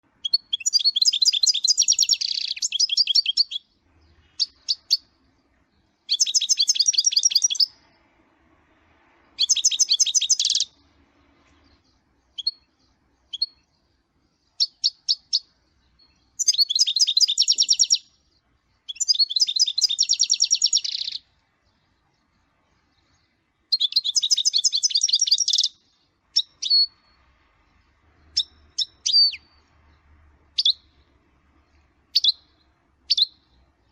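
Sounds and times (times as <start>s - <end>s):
bird twittering song: 0.0s - 33.9s.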